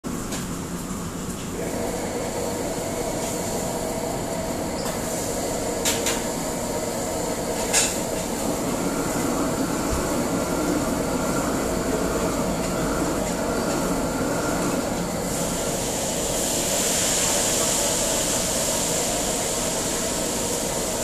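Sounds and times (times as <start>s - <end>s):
extractor hood and gas range roar: 0.0s - 21.0s.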